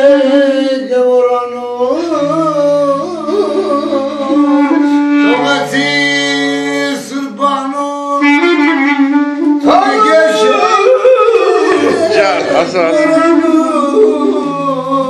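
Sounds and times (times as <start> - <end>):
clarinet folk melody: 1.9 - 15.0.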